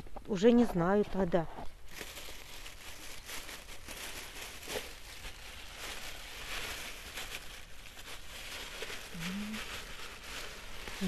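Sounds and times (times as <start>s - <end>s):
bag rustling and crinkling: 1.5s - 11.0s.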